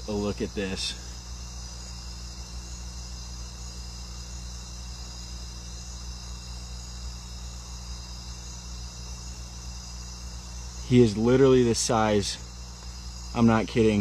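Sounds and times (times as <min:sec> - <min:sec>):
low steady hum: 0:00.0 - 0:14.0
rainforest insects chorus: 0:00.0 - 0:14.0.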